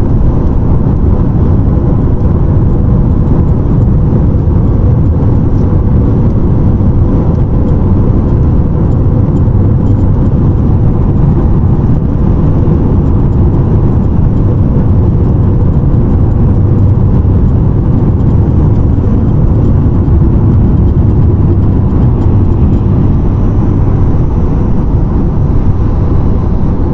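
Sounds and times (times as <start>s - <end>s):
car cabin road noise: 0.1s - 26.9s.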